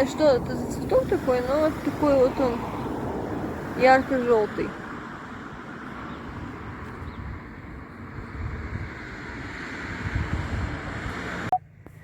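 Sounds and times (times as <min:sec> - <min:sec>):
wind rumbling on microphone: 0:00.0 - 0:11.5.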